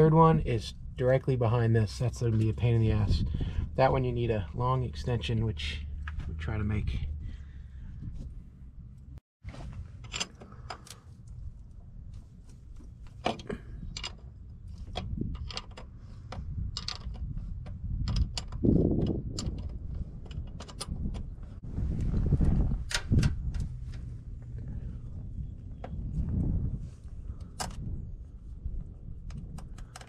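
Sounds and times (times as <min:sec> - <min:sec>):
low rumble: 0:01.8 - 0:10.1, 0:11.0 - 0:30.0.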